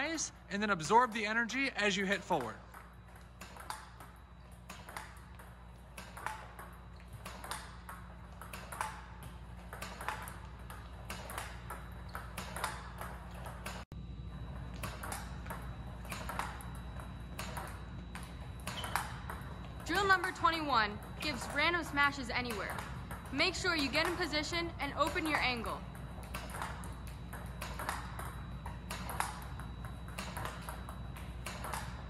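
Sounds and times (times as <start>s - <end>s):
steady low hum: 0.0s - 32.0s
ping pong ball clicks: 2.3s - 13.8s, 14.8s - 20.4s, 22.4s - 32.0s.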